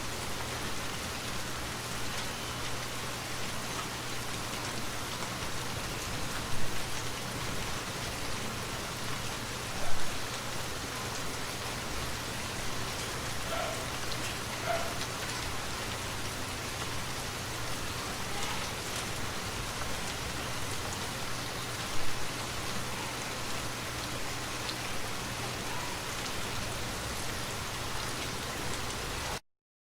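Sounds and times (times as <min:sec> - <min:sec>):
steady rain falling: 0:00.0 - 0:29.4.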